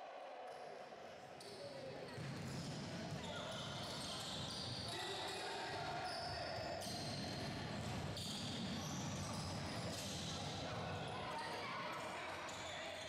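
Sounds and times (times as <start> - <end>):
sports hall background noise: 0.0 - 13.0.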